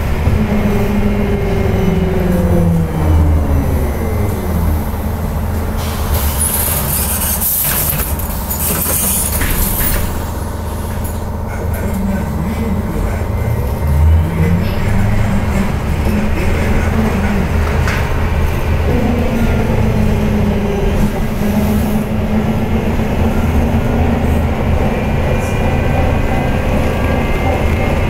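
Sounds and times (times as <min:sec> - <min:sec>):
bus running rumble: 0:00.0 - 0:28.0.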